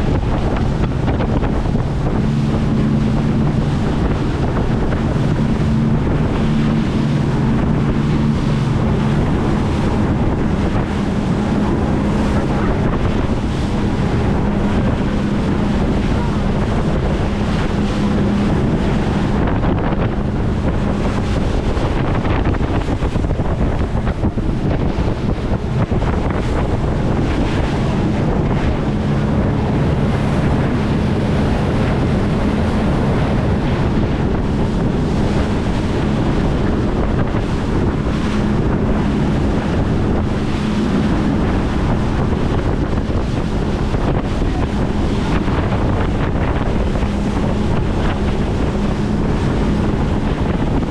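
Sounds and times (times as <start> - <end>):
rushing water: 0.0 - 50.9
speedboat engine drone: 0.0 - 50.9
wind buffeting microphone: 0.0 - 50.9.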